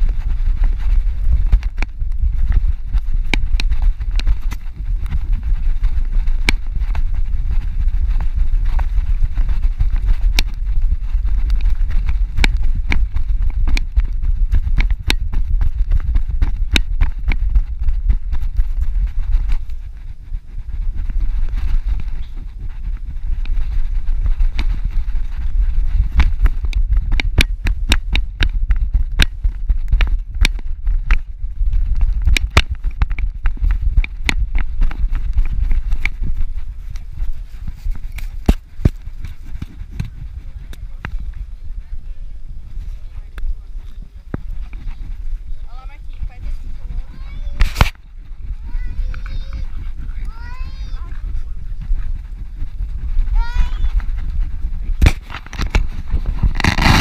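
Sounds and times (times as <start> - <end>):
wind rumble on camera: 0.0 - 57.0.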